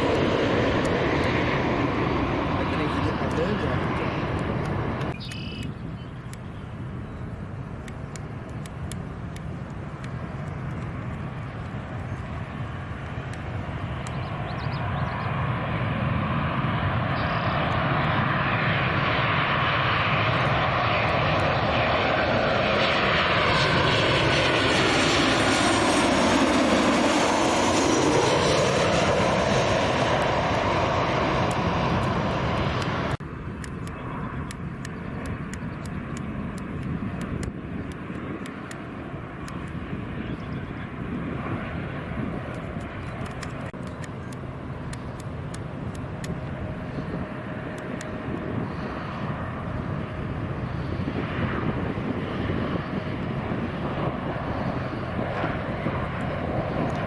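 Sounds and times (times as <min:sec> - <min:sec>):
airliner passing: 0:00.0 - 0:57.0.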